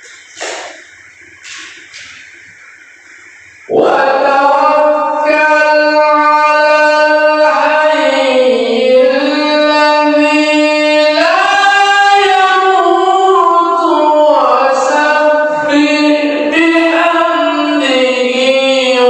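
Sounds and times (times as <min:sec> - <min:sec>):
man reciting in melodic chant: 0:03.0 - 0:19.0.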